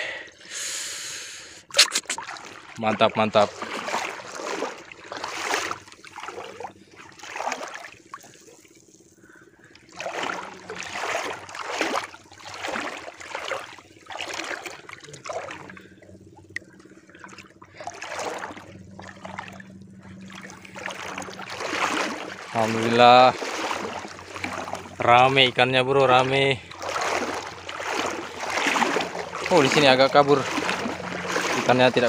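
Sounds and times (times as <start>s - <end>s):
seawater sloshing from wading: 1.7s - 32.0s.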